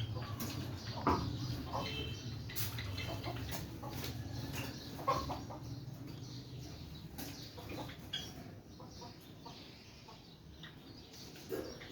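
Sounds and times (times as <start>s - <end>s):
birds calling: 0.0s - 11.9s.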